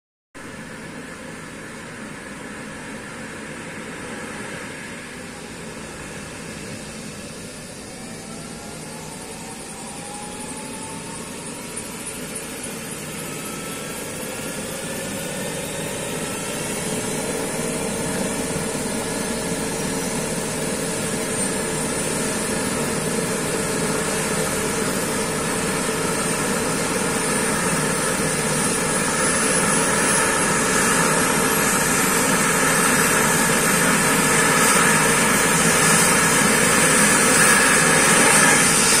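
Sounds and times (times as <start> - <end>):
helicopter turbine whine: 0.4 - 39.0.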